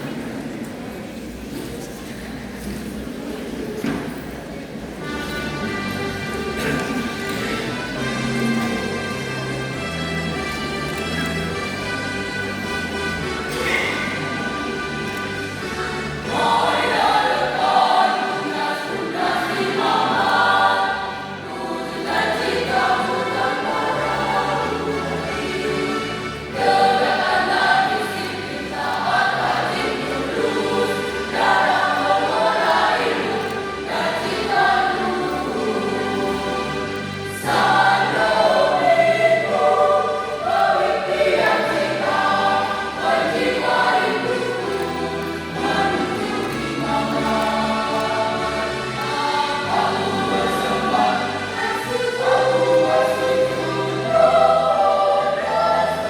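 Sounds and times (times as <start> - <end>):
choir singing: 5.0 - 56.0.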